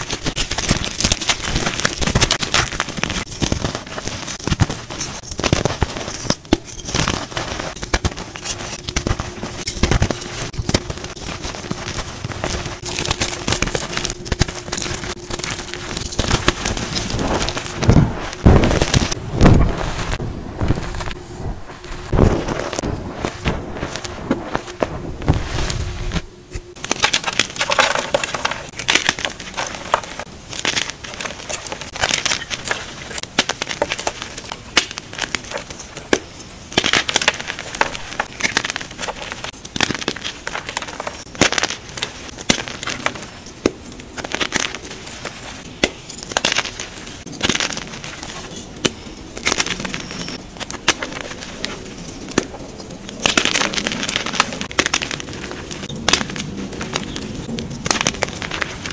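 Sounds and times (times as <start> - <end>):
chalk blocks crunching: 0.0 - 21.2, 26.7 - 58.9
powdery crackling: 0.0 - 58.9.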